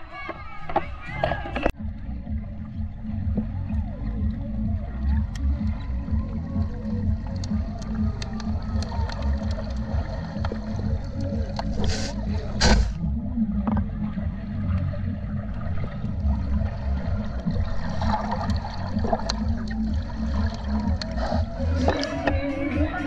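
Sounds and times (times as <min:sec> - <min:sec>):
crowd noise: 0:00.0 - 0:23.0
muffled party music bass: 0:00.0 - 0:23.0
water: 0:00.1 - 0:23.0.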